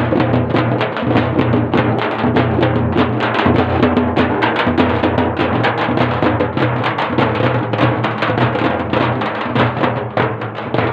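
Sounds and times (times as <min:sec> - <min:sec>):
large drums beating fast: 0:00.0 - 0:10.9.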